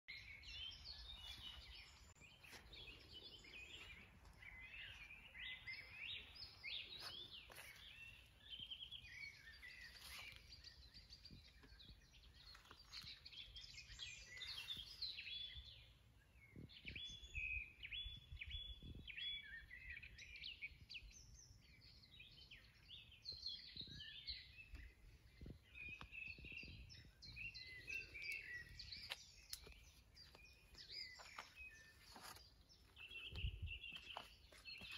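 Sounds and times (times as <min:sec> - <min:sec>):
small birds chirping and trilling: 0:00.1 - 0:34.9.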